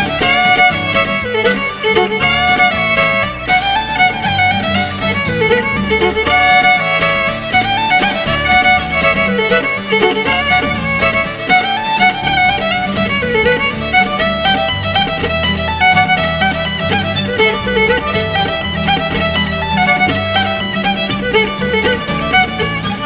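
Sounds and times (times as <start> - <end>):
fiddle playing dance tune: 0.0 - 23.0
low accompaniment: 0.0 - 23.0.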